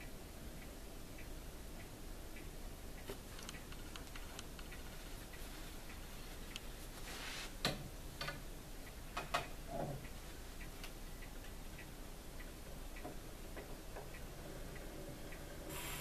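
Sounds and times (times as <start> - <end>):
faint light ticks: 0.0 - 7.0, 7.6 - 15.9.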